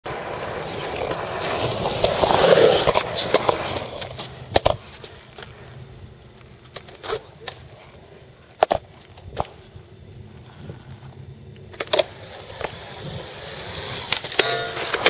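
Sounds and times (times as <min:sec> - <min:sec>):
skateboard wheels rolling on concrete: 0:00.0 - 0:15.0
skateboard clacks: 0:00.1 - 0:09.8, 0:11.1 - 0:15.0.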